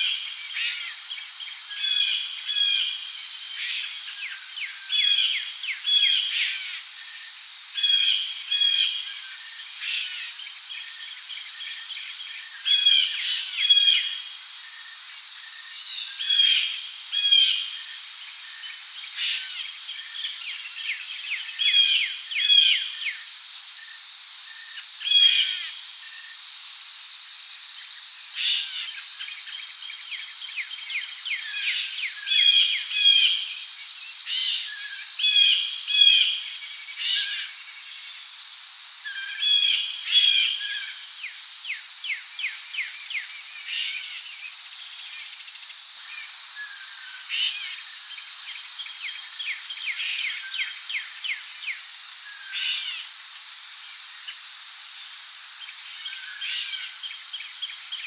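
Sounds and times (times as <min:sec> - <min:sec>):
crickets and insects droning: 0:00.0 - 0:58.0.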